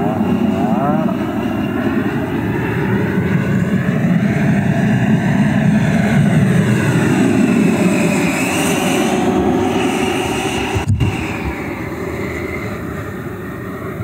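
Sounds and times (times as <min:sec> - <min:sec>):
model jet fan roaring and whining: 0:00.0 - 0:14.0.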